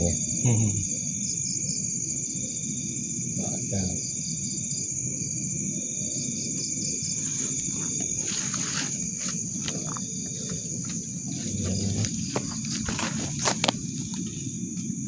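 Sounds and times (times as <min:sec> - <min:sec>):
crickets trilling: 0:00.0 - 0:15.0
low rumbling noise: 0:02.1 - 0:15.0.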